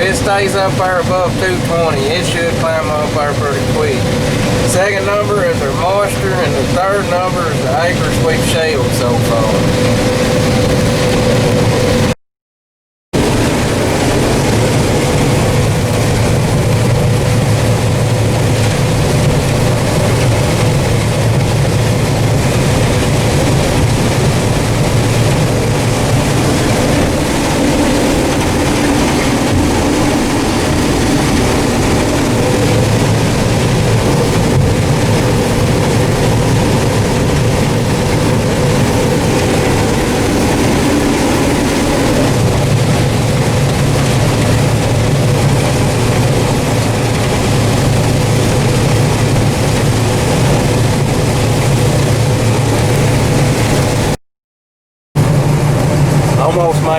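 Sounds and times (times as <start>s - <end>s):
combine harvester engine drone: 0.0s - 12.2s, 13.2s - 54.2s, 55.2s - 56.9s.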